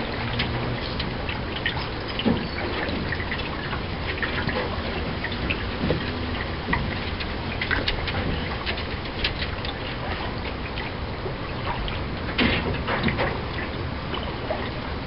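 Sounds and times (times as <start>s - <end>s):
low wind rumble: 0.0s - 15.0s
paddle splashes and drips: 0.0s - 15.0s
water lapping around canoe: 0.0s - 15.0s.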